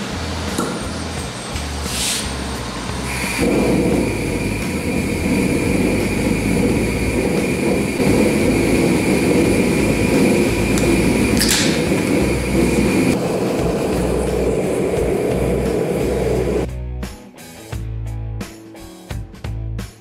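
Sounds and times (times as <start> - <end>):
gas burner lighting: 0.0 - 16.7
rushing gas flame: 0.0 - 16.7.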